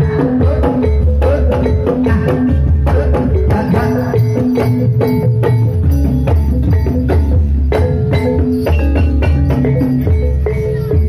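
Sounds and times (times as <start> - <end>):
gamelan music: 0.0 - 11.0
kendang drum: 0.0 - 11.0.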